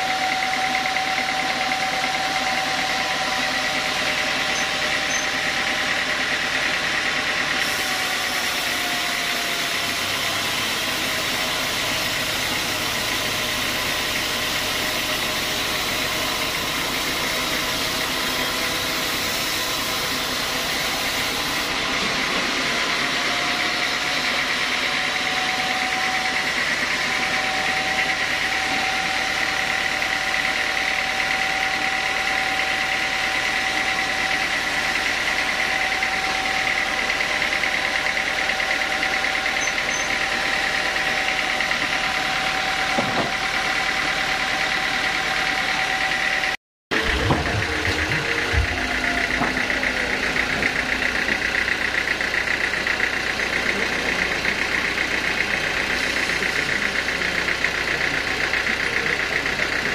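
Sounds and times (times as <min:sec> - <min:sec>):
saw cutting through timber: 0:00.0 - 0:59.9
sawmill saw whining: 0:00.0 - 0:59.9.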